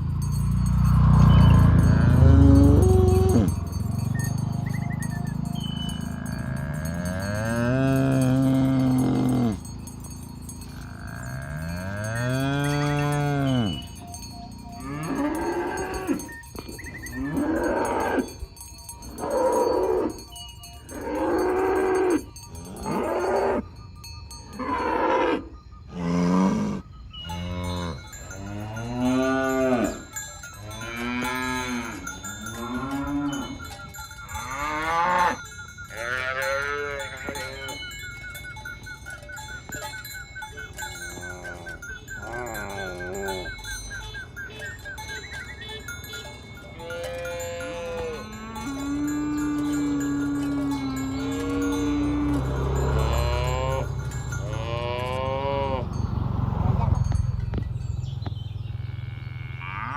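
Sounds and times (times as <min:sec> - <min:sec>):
cattle mooing: 0:01.0 - 0:18.4, 0:20.9 - 0:23.6, 0:24.5 - 0:38.0, 0:40.9 - 0:43.6, 0:46.2 - 0:57.2, 0:58.8 - 0:59.9.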